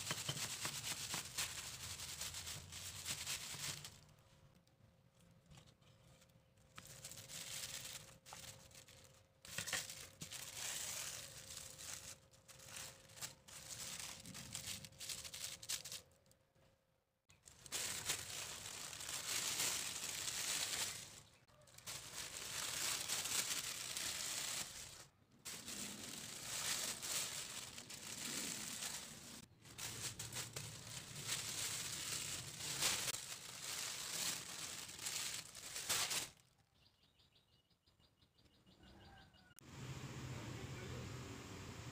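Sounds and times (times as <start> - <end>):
plastic sheet crinkling: 0.0 - 16.4, 17.3 - 36.5.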